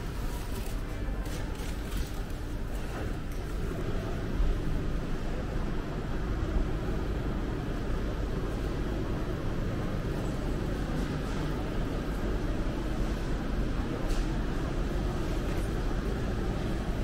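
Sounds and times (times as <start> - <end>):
supermarket background noise: 0.0 - 17.0.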